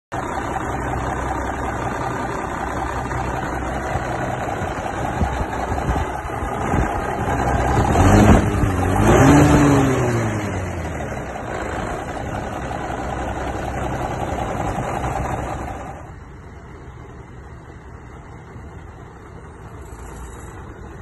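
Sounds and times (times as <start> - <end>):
diesel engine idling and revving: 0.1 - 21.0.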